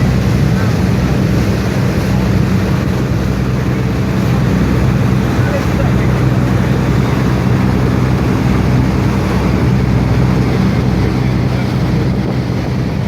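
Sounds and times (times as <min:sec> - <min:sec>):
motorboat engine drone: 0:00.0 - 0:13.0
water rushing: 0:00.0 - 0:13.0
wind noise: 0:00.0 - 0:13.0.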